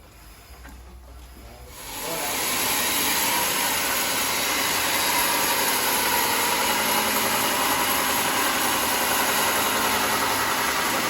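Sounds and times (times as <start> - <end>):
sawmill machinery running: 1.6 - 11.0.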